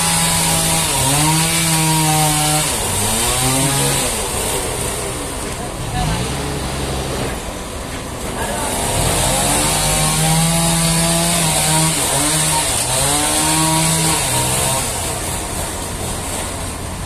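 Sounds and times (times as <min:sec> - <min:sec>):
forklift engine whining: 0:00.0 - 0:17.0.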